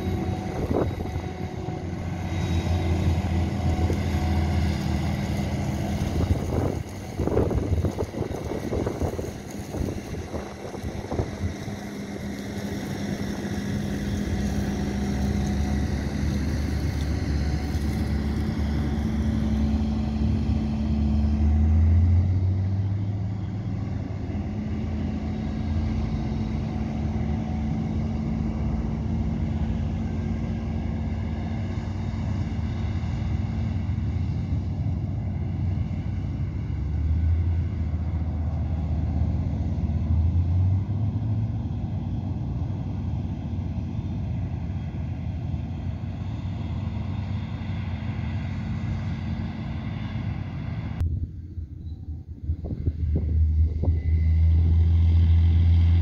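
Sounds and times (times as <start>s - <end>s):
diesel harvester engine: 0.0s - 56.0s
tractor passing: 0.0s - 56.0s.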